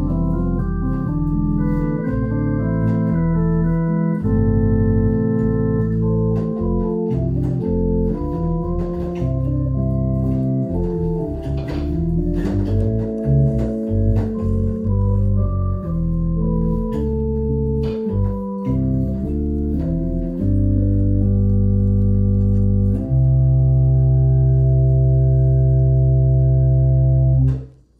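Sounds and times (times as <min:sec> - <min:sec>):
organ playing hymn chords: 0:00.0 - 0:27.7.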